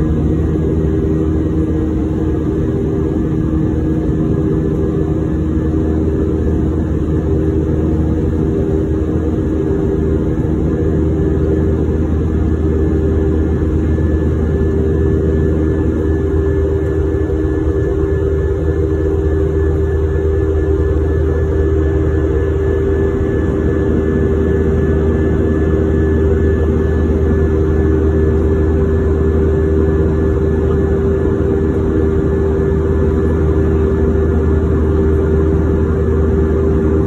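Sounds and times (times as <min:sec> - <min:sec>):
faint high whine: 0:00.0 - 0:37.0
jet engines droning in cabin: 0:00.0 - 0:37.0.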